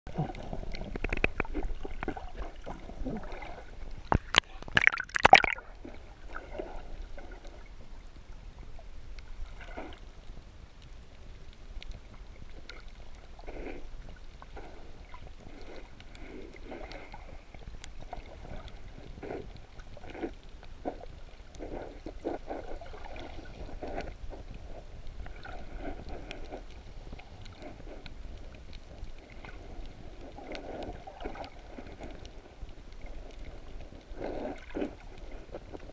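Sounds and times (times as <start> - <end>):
muffled underwater water sloshing: 0.1 - 35.9.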